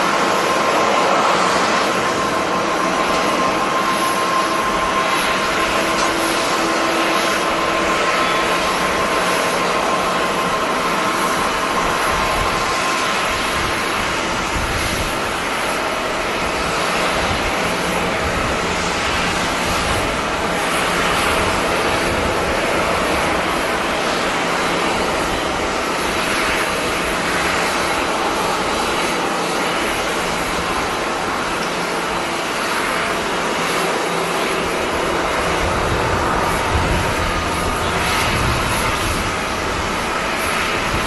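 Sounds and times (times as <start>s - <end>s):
jet engines rushing: 0.0s - 41.0s.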